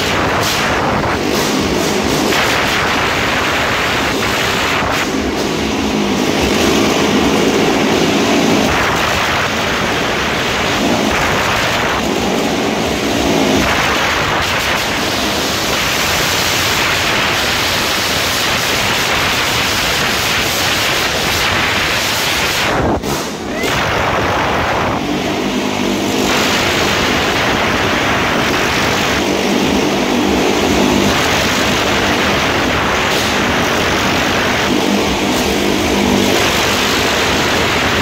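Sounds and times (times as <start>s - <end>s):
motorcycle engines roaring: 0.0s - 38.0s.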